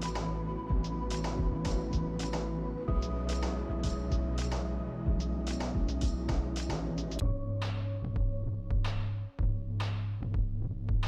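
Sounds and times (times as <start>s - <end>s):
electronic music: 0.0s - 9.2s
steady bass line: 0.0s - 11.0s.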